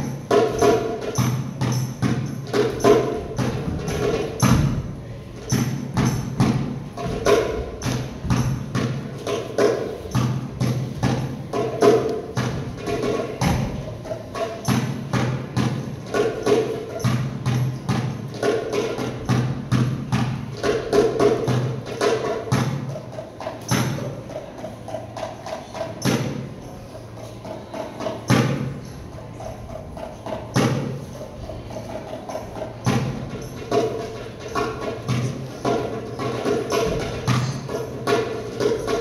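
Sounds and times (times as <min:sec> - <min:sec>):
goblet drum played by hand: 0:00.0 - 0:39.0.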